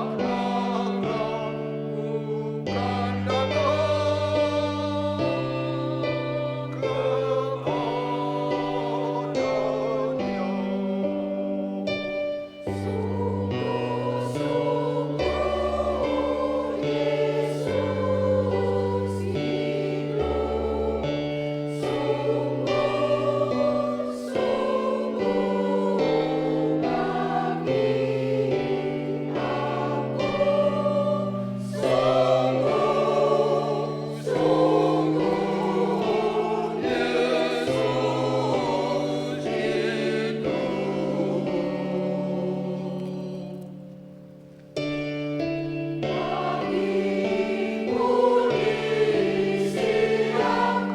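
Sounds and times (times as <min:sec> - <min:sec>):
church choir singing in harmony: 0:00.0 - 0:50.9.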